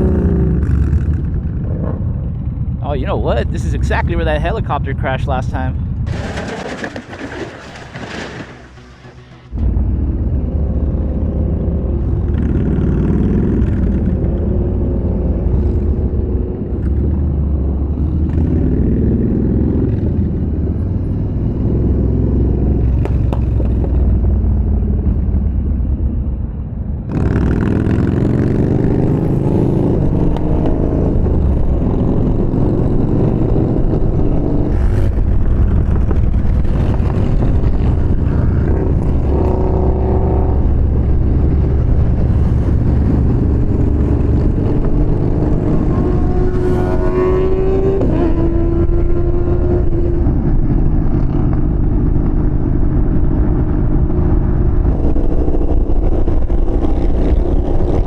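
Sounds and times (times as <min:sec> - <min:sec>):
motorcycle engine revving: 0:00.0 - 0:02.8, 0:06.1 - 0:25.4, 0:27.1 - 0:58.0.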